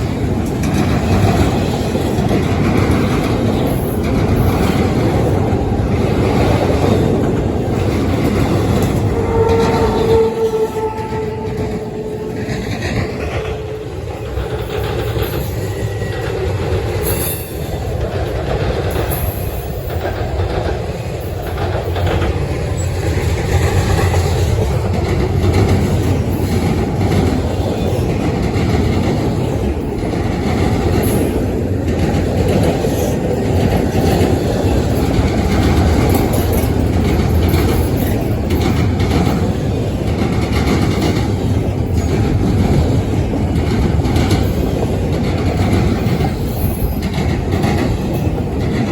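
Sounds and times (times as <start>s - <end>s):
freight train wheels clattering: 0.0s - 48.9s.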